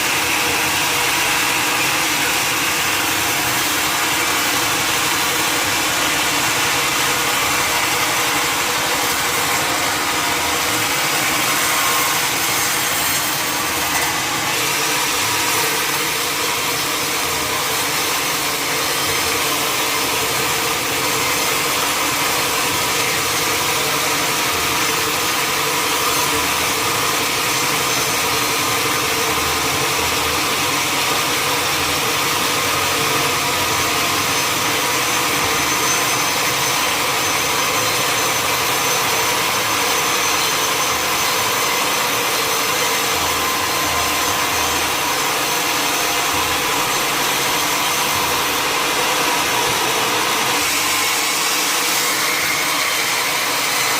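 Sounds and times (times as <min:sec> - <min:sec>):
saw cutting wood: 0:00.0 - 0:53.9.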